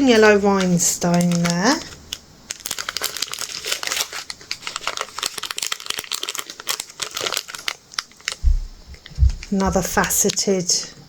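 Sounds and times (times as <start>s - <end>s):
plastic packets crinkling: 0.0s - 10.6s.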